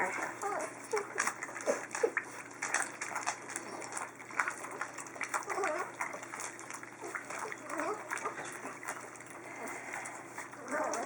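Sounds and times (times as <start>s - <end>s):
puppies lapping and slurping: 0.0s - 11.0s
puppies whimpering: 0.0s - 11.0s.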